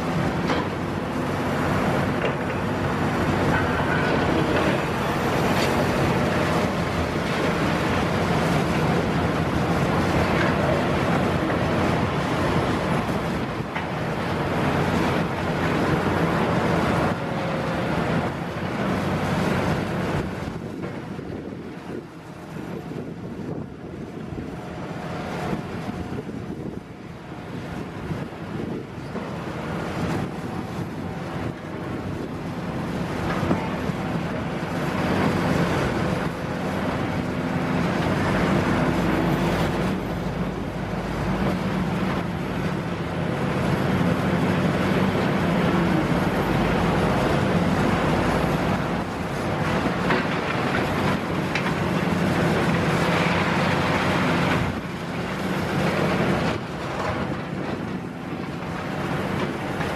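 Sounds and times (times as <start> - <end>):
excavator diesel engine under load: 0.0 - 59.9
hydraulics working: 0.0 - 59.9.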